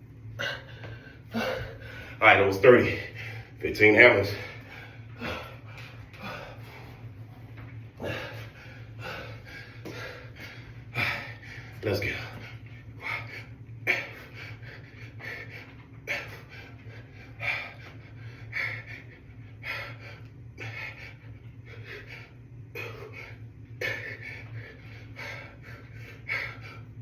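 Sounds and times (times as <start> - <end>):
steady low hum: 0.0 - 27.0
man panting: 0.4 - 7.2, 7.9 - 27.0.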